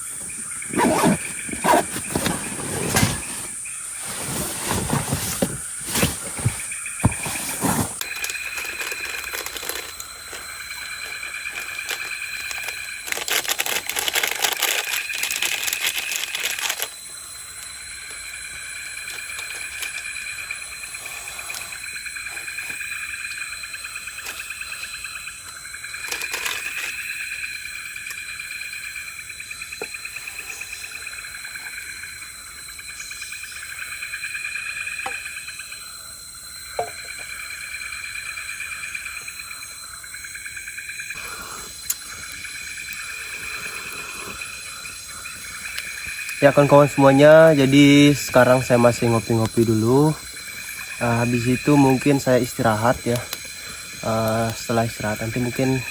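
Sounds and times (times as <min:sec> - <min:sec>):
insects trilling: 0:00.0 - 0:55.9.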